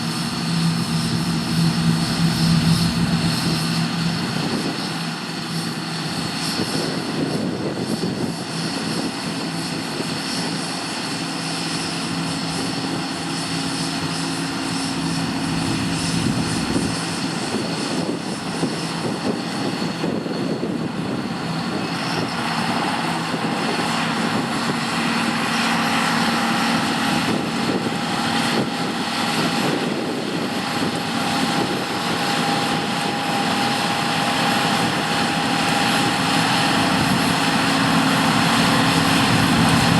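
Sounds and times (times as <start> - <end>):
combine harvester engine drone: 0.0 - 39.9
machinery whine: 0.0 - 39.9.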